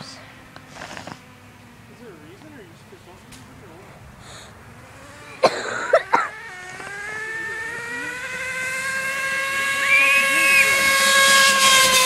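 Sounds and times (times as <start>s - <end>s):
small engine popping and whining: 0.0s - 12.0s.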